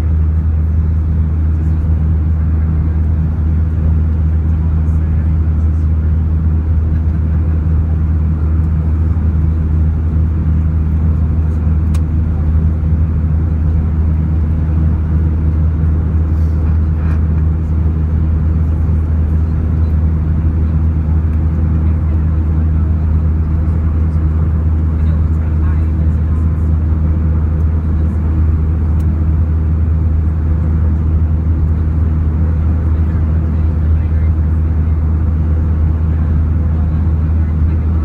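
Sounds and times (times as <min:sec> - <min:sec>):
jet airliner cabin drone: 0:00.0 - 0:38.0.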